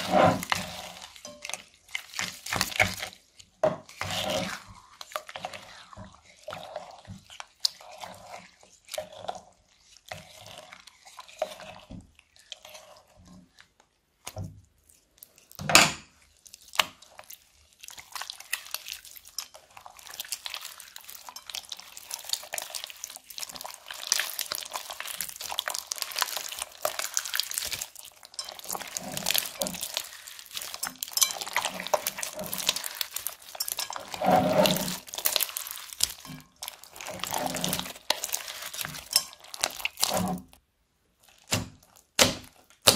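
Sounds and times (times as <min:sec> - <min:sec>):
fine crackling of beaded slime: 0:00.0 - 0:42.9
slime squelching: 0:00.0 - 0:42.9.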